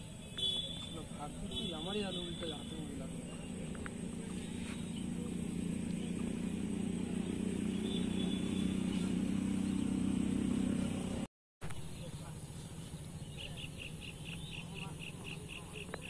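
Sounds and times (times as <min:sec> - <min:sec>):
motor vehicle engine hum: 0:00.0 - 0:16.0.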